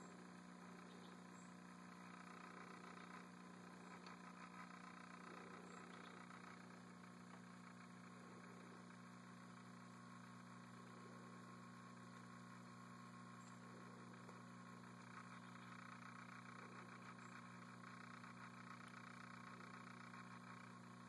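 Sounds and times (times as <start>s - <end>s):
faint background hum: 0.0s - 21.0s.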